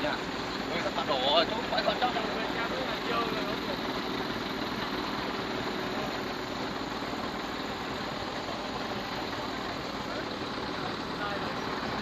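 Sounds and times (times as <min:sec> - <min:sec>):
diesel machinery running: 0:00.0 - 0:12.0.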